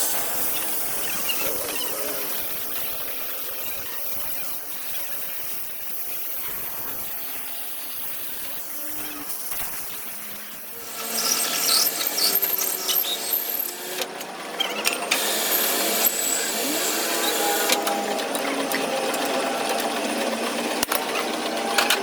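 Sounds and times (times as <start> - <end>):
metalworking power tool running: 0.0 - 22.0.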